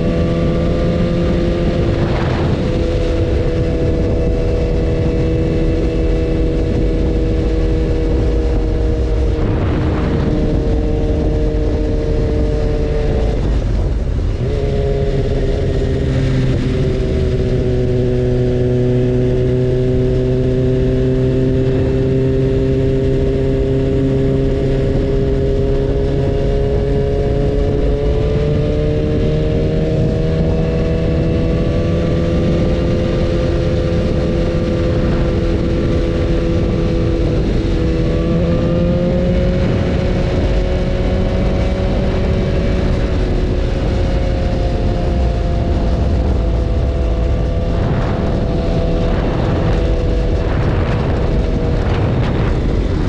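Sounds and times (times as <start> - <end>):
constant rushing noise: 0.0 - 53.0
motorcycle engine running: 0.0 - 53.0.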